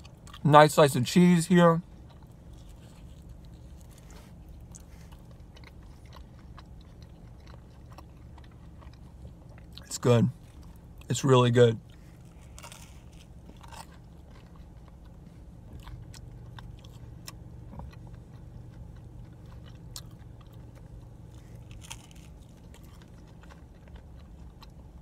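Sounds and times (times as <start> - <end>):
person chewing pizza: 0.0 - 0.7, 1.8 - 25.0
faint low hum: 0.0 - 25.0.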